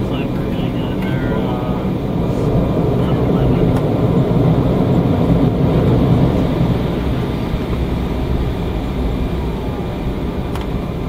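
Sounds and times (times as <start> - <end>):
airliner jet engines: 0.0 - 11.0
heavy low rumble: 0.0 - 11.0.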